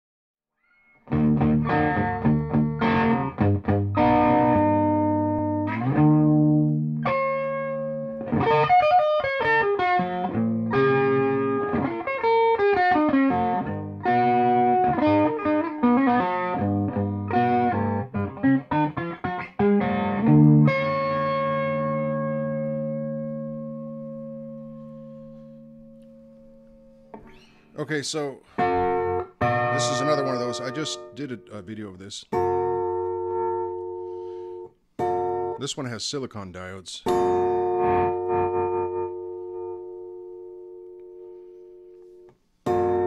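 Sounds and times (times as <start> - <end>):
electric guitar through amplifier: 1.0 - 27.6, 28.5 - 31.4, 32.3 - 35.6, 37.0 - 43.0.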